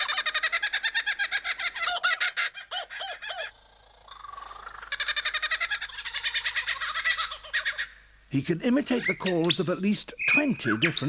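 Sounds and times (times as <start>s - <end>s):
lyrebird chattering song: 0.0s - 11.0s.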